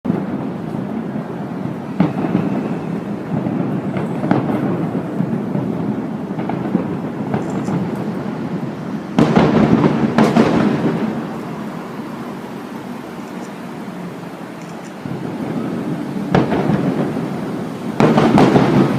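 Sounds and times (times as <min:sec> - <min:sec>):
distant fireworks bursting: 0:00.1 - 0:18.9.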